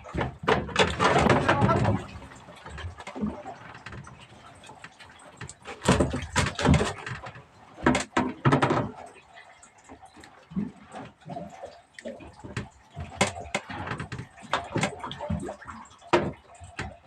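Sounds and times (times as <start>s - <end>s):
knocks and thumps on a boat: 0.0s - 17.0s.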